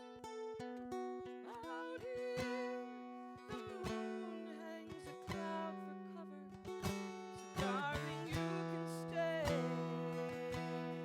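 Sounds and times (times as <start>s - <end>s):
acoustic guitar strummed and picked: 0.0s - 11.0s.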